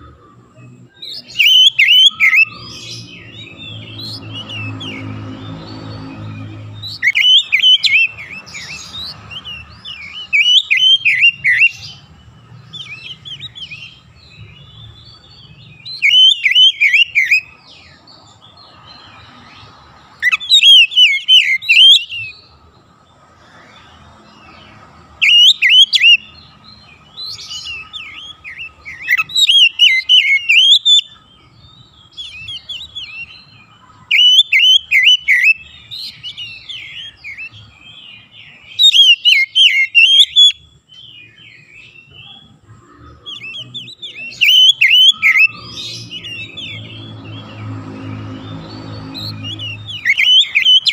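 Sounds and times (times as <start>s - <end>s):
bird singing whistled notes: 0.0s - 22.6s, 23.6s - 50.9s.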